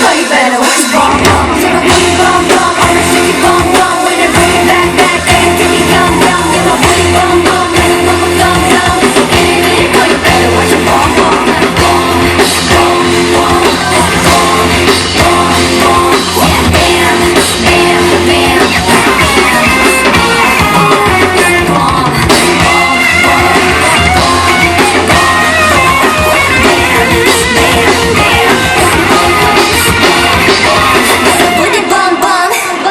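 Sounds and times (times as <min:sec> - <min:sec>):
driving drum beat: 0:00.0 - 0:32.9
person singing: 0:00.0 - 0:32.9
pop music over sound system: 0:00.0 - 0:32.9.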